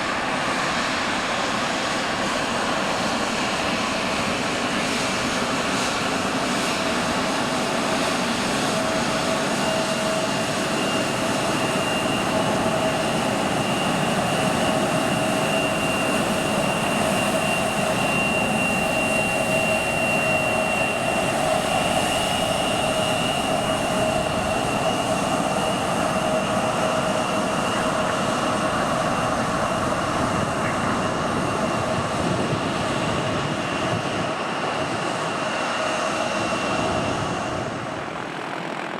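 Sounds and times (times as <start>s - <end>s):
airplane engines running: 0.0s - 38.9s.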